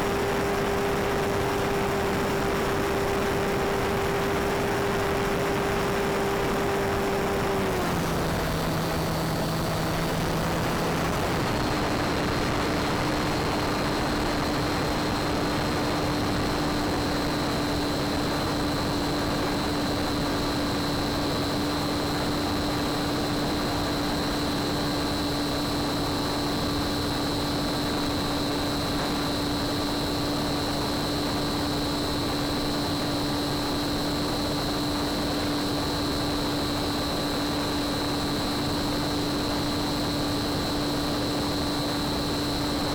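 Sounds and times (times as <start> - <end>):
electric motor and propeller humming: 0.0 - 42.9.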